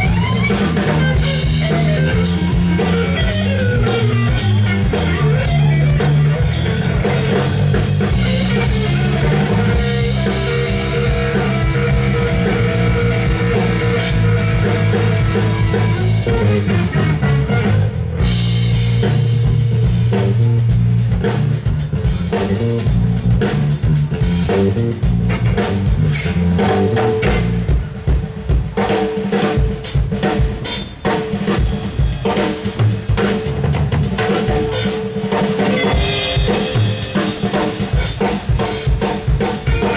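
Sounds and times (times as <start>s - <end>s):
drum hits: 0.0s - 39.9s
live instrumental rock: 0.0s - 39.9s.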